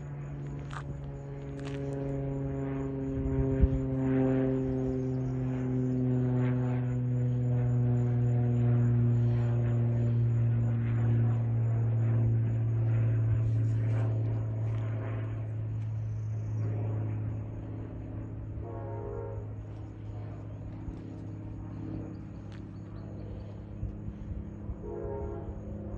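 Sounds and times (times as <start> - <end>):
distant engine drone: 0.0 - 25.9.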